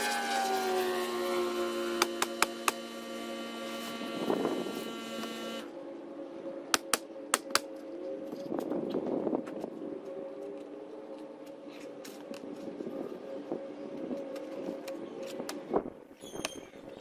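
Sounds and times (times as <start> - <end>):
mechanical hum with whine: 0.0 - 17.0.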